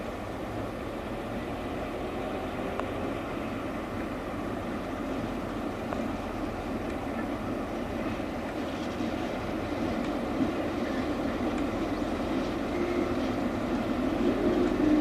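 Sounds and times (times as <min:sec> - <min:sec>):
diesel locomotive running: 0:00.0 - 0:15.0.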